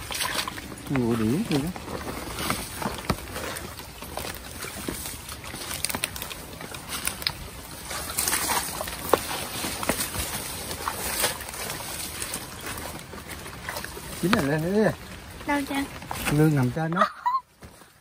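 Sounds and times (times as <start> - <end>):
footsteps sloshing through water and mud: 0.0 - 18.0
grass and leaves brushing and snapping: 0.0 - 18.0.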